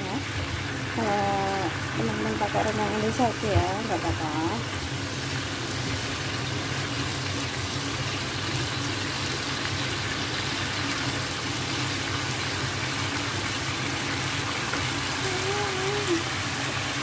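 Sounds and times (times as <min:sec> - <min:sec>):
sauce sizzling and bubbling in pan: 0:00.0 - 0:17.0.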